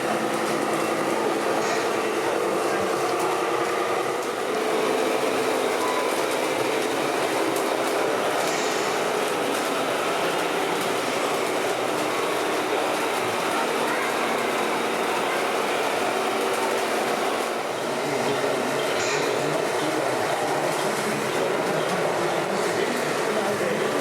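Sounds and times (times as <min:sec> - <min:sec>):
model trucks mechanical noise: 0:00.0 - 0:24.0.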